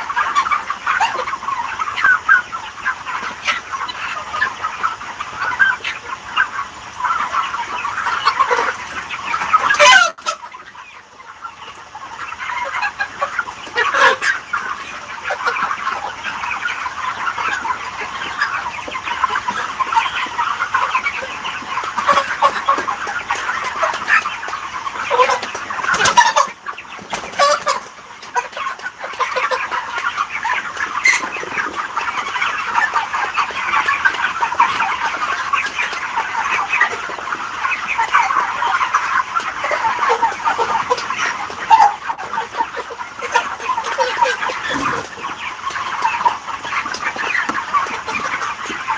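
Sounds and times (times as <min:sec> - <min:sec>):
flock of chickens clucking: 0:00.0 - 0:48.9.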